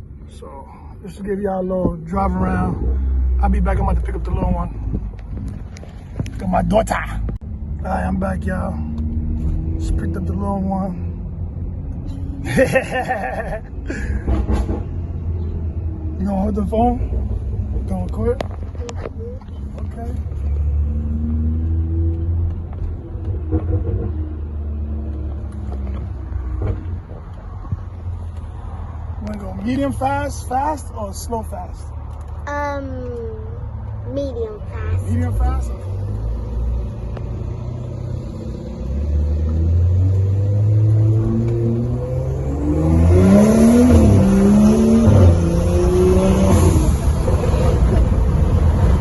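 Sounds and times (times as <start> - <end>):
deep car engine drone: 0.0 - 49.0.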